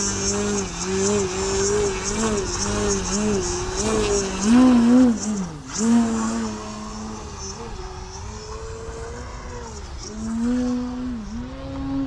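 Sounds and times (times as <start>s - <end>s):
model airplane motor humming: 0.0s - 11.8s.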